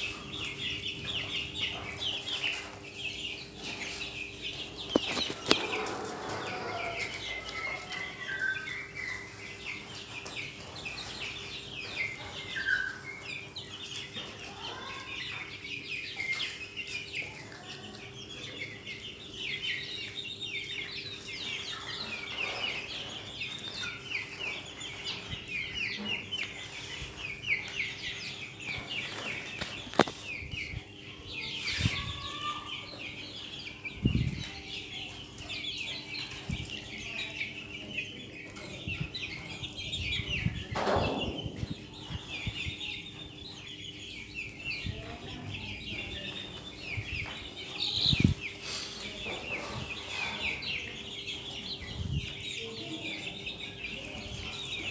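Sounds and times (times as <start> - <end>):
chickens clucking: 0.0 - 54.9
chicks peeping: 0.0 - 54.9.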